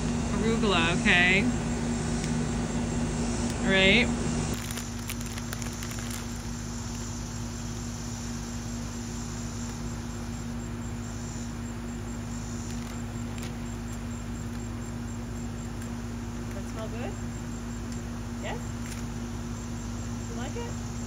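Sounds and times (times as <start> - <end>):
constant low hum: 0.0 - 21.0
insects chirping: 0.4 - 21.0.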